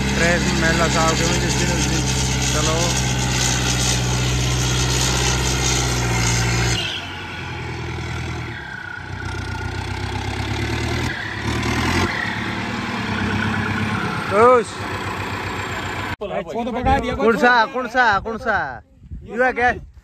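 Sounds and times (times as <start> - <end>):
tractor diesel engine under load: 0.0 - 16.2.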